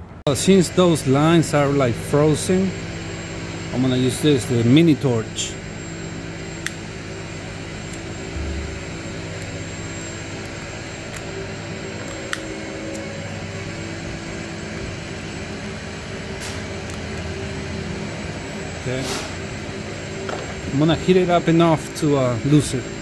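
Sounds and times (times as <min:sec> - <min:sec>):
torch flame roaring: 0:00.4 - 0:23.0.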